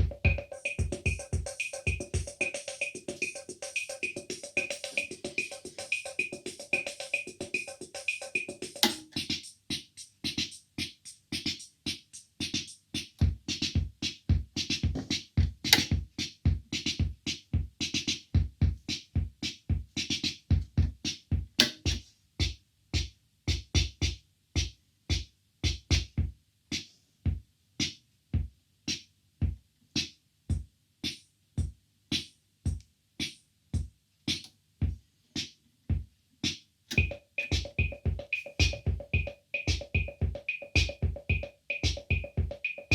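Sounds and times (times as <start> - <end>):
drum machine bass drum: 0.0 - 42.9
drum machine hi-hat: 0.0 - 42.9.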